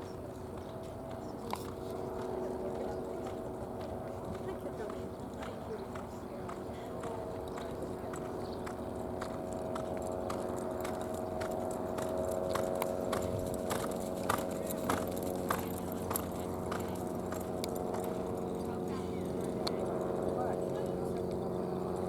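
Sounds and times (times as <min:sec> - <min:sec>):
steady hum: 0:00.0 - 0:22.0
hoof clicks and knocks: 0:00.4 - 0:22.0.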